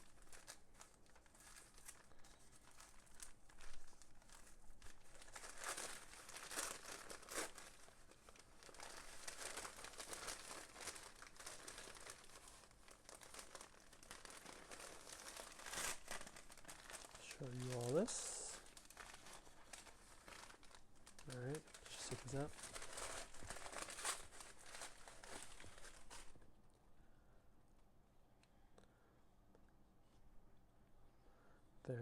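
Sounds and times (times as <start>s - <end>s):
packaging crinkling and rustling: 0.0s - 26.5s.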